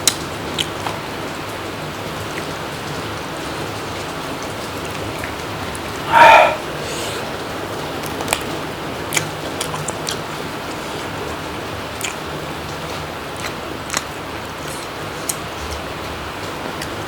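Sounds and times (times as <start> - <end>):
crunching and chewing food: 0.0 - 5.9, 8.0 - 17.0.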